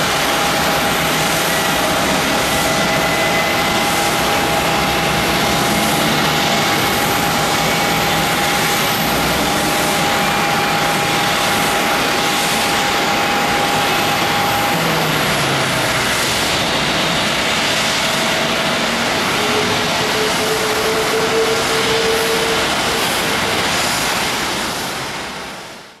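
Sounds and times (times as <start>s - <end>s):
jet engine rush: 0.0s - 26.0s.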